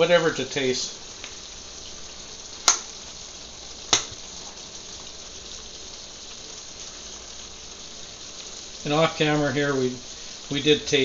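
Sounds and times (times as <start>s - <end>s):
stir fry sizzling in a pan: 0.0s - 11.0s.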